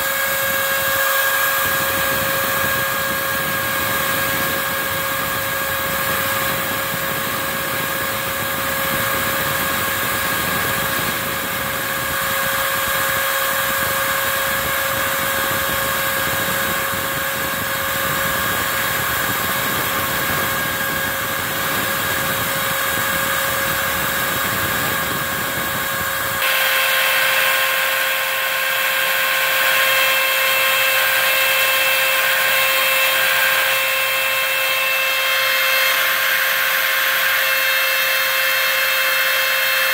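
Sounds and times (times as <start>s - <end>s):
router spindle whine: 0.0s - 39.9s
vacuum drawing through hose: 0.0s - 39.9s.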